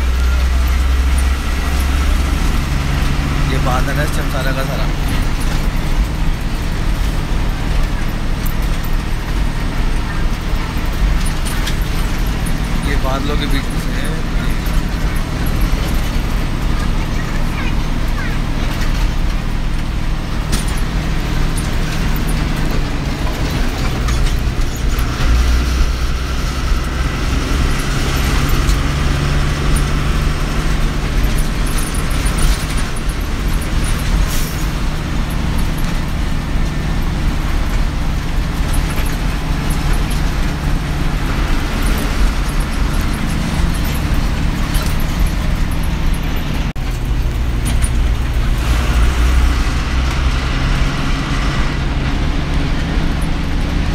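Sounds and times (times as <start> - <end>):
bus engine drone: 0.0 - 53.9
rattles: 0.0 - 53.9.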